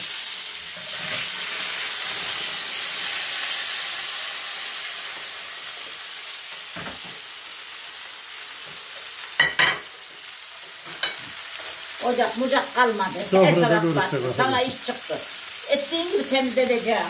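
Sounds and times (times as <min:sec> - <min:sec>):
tomato slices sizzling: 0:00.0 - 0:17.0.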